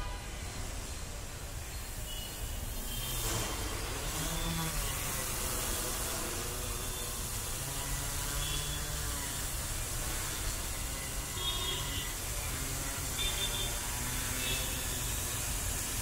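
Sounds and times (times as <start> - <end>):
drone motors buzzing: 2.7 - 16.0.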